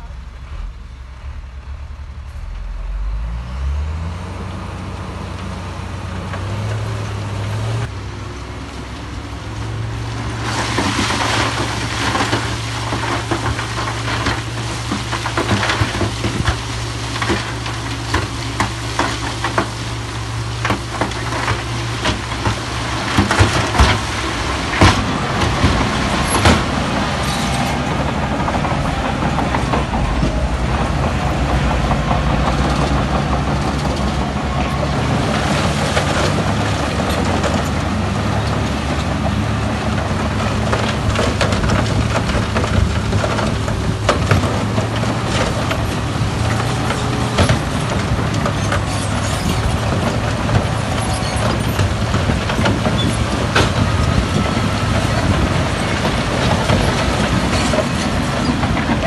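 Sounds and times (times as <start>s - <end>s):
diesel machine engine running: 0.0s - 59.0s
clanks knocks and scraping: 10.5s - 59.0s.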